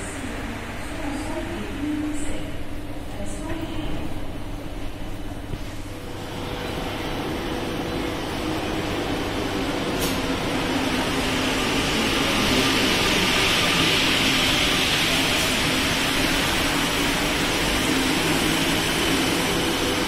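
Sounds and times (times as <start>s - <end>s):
metro trains rumbling and hissing: 0.0s - 20.0s.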